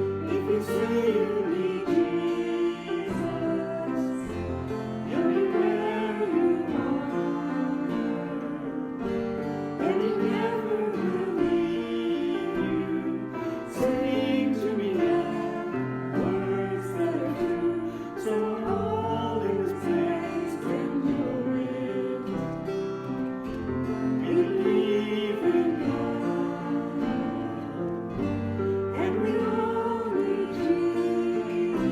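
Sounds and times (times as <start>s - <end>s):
worship song with guitar: 0.0s - 31.9s.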